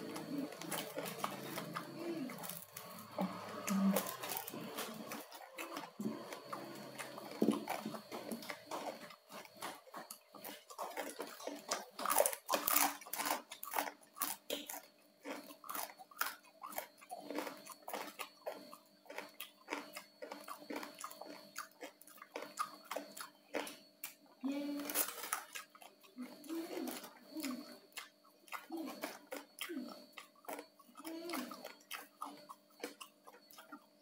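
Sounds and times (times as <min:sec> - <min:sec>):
chewing crispy pork: 0:00.0 - 0:34.0.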